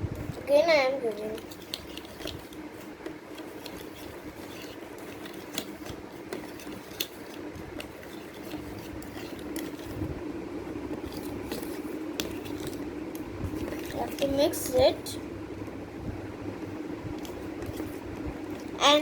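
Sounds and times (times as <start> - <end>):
steady low hum: 0.0 - 19.0
spoon stirring thick slime: 0.2 - 15.2, 16.6 - 19.0.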